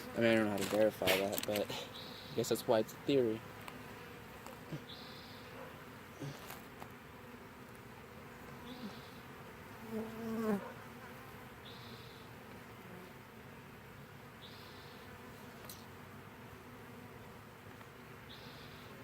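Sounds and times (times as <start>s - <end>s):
bee swarm buzzing: 0.0s - 19.0s
single bee buzz falling in pitch: 3.3s - 19.0s.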